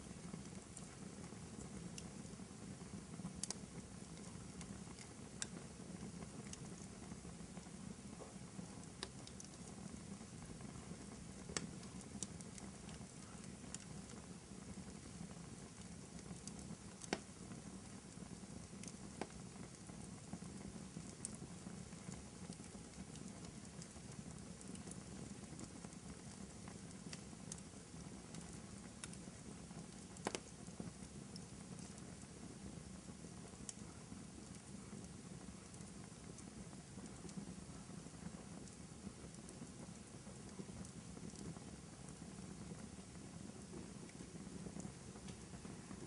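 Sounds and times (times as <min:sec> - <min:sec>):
fire crackling: 0:00.0 - 0:46.0
fire popping: 0:00.0 - 0:46.0.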